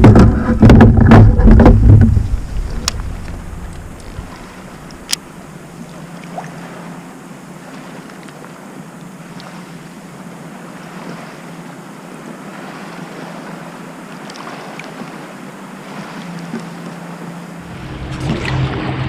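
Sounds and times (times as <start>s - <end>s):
boat motor humming: 0.0s - 19.0s
water noise: 0.0s - 19.0s
wind: 0.0s - 19.0s.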